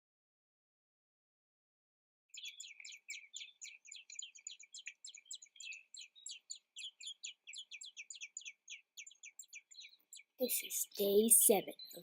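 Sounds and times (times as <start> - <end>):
birds chirping: 2.3 - 12.0.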